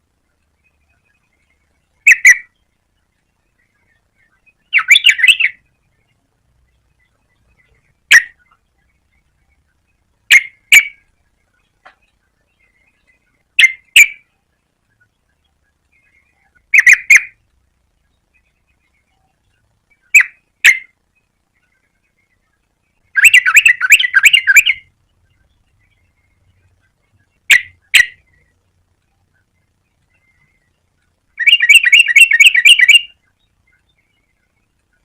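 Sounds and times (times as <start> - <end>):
bulbul calling: 0.4 - 35.0.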